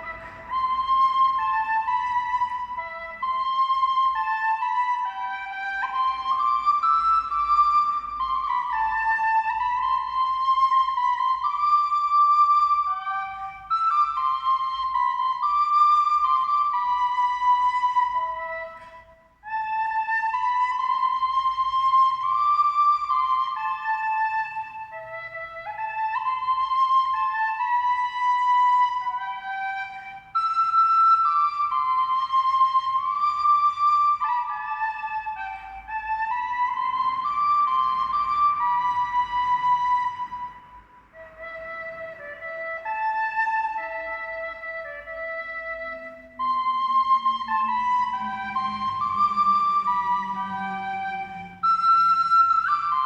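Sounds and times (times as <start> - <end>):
high flute-like melody: 0.0 - 53.0.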